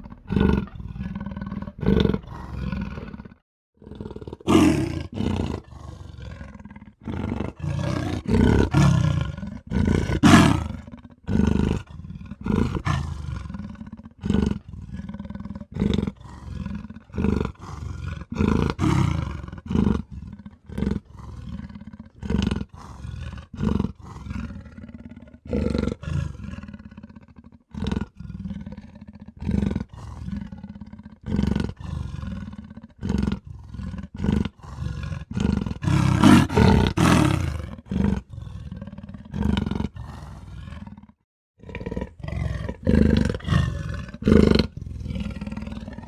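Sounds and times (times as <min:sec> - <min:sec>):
leopard roaring: 0:00.0 - 0:46.0.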